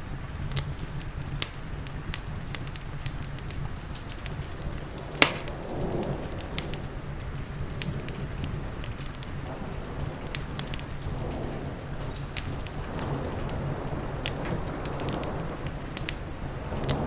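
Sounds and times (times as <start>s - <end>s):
rain hissing: 0.0s - 17.0s
wood fire crackling and popping: 0.0s - 17.0s.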